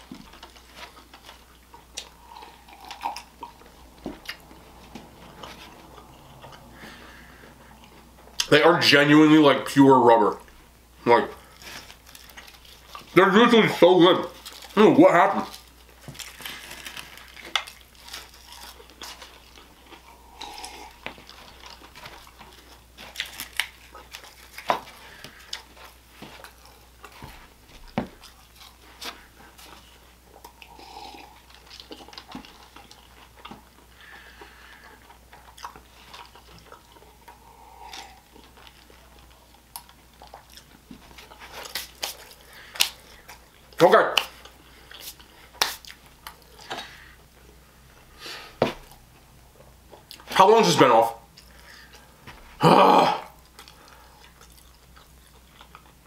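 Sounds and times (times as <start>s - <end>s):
person chewing food: 0.0s - 8.5s, 11.3s - 13.2s, 15.4s - 50.3s, 51.3s - 56.0s.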